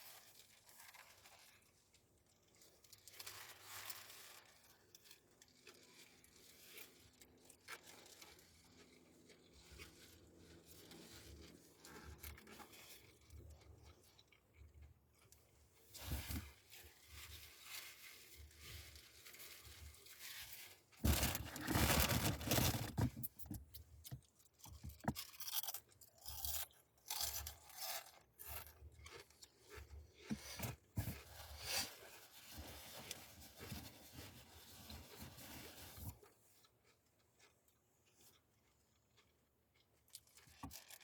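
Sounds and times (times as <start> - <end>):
chewing and crunching food: 0.0 - 33.7, 34.8 - 41.0.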